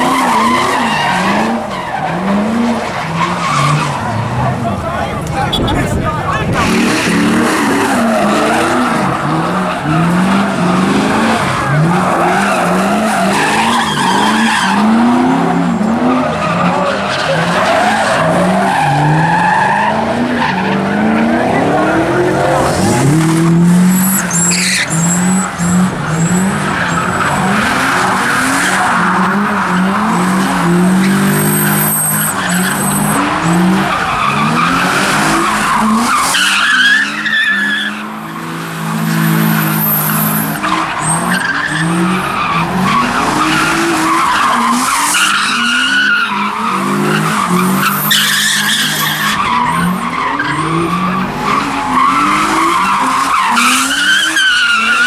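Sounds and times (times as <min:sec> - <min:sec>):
car engines revving: 0:00.0 - 0:55.0
tyres squealing: 0:06.5 - 0:55.0.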